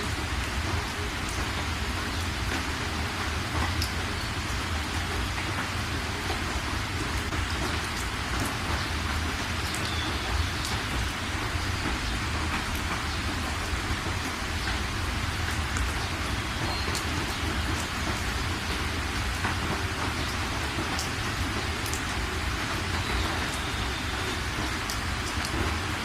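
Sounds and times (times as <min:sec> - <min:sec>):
rain drop ticks: 0:00.0 - 0:26.0
steady rain hiss: 0:00.0 - 0:26.0.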